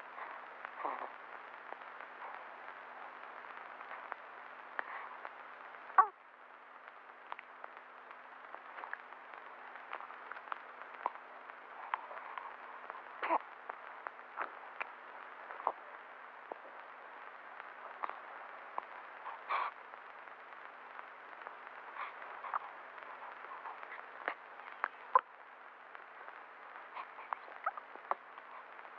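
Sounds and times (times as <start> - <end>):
clicks and crackles: 0.0 - 28.9
film soundtrack hiss and hum: 0.0 - 28.9.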